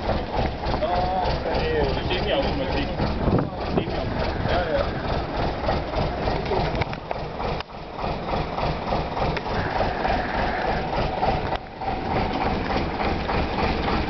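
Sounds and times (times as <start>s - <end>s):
bus diesel engine idling: 0.0s - 14.0s.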